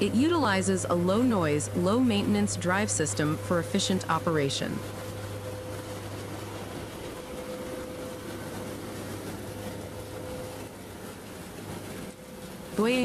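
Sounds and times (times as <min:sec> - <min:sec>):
machinery hiss and hum: 0:00.0 - 0:13.0.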